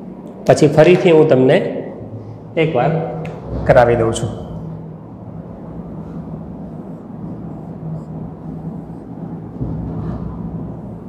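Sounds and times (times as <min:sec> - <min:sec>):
faint hum: 0:00.0 - 0:11.0
low background rumble: 0:01.9 - 0:11.0.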